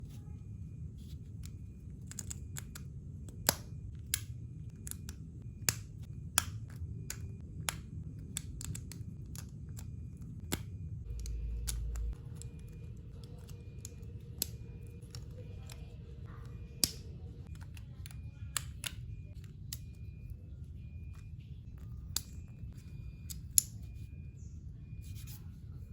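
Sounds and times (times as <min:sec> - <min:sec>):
low room hum: 0:00.0 - 0:25.9.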